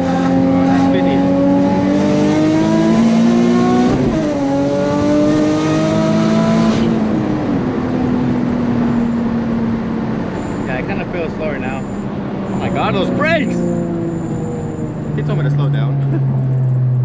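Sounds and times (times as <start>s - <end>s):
car engine revving hard: 0.0s - 9.0s, 10.2s - 17.0s.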